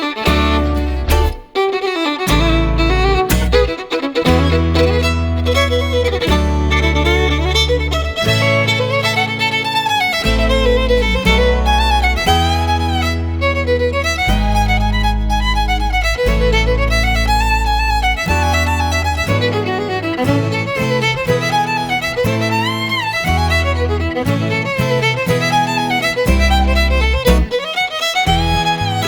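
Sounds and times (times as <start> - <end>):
held bass notes: 0.3 - 1.4, 2.3 - 27.6, 28.2 - 29.0.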